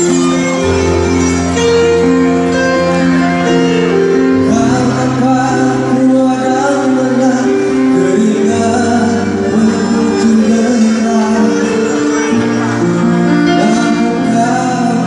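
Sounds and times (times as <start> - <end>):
held keyboard chords: 0.0 - 15.0
violin playing: 0.0 - 15.0.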